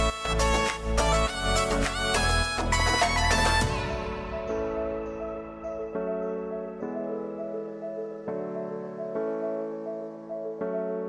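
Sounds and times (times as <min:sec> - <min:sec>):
instrumental music with held chords: 0:00.0 - 0:11.0.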